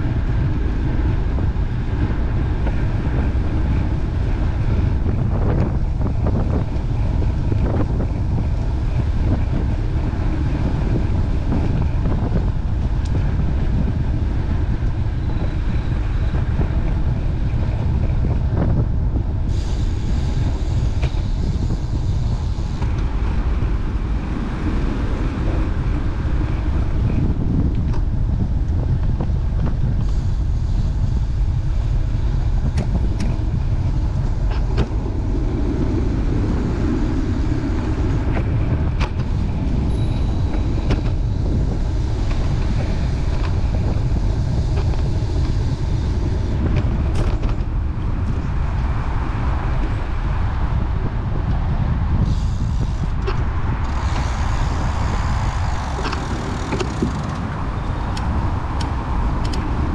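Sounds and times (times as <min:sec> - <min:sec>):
road traffic rumble: 0:00.0 - 0:59.9
wind buffeting microphone: 0:00.0 - 0:59.9.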